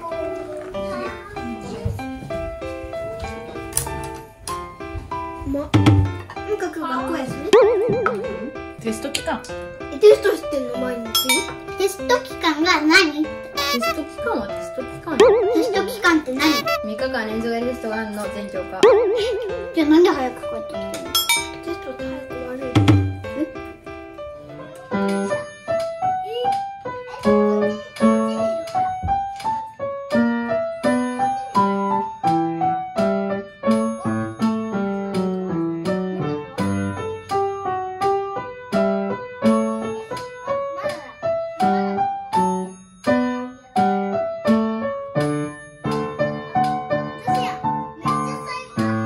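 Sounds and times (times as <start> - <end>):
piano melody: 0.0 - 49.0.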